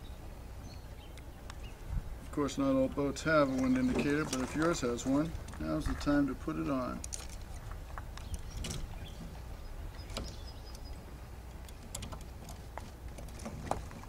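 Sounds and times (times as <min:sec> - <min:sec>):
wind rumble on microphone: 0:01.5 - 0:02.4, 0:03.6 - 0:14.0.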